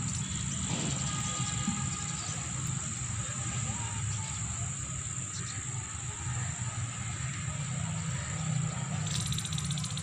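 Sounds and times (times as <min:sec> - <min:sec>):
insects chirring: 0:00.0 - 0:10.0
low outdoor rumble: 0:00.0 - 0:10.0.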